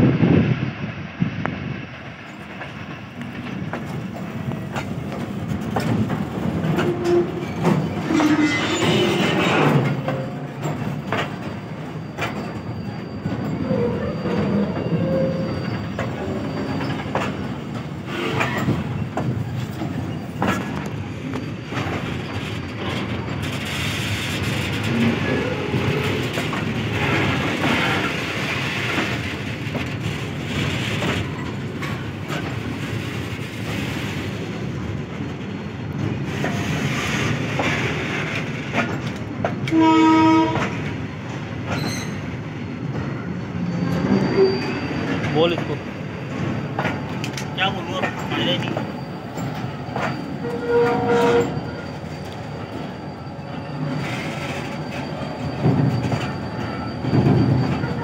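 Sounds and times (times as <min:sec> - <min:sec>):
steel wheels rumbling on rail: 0:00.0 - 0:58.0
wheels clacking on rail joints: 0:02.2 - 0:58.0.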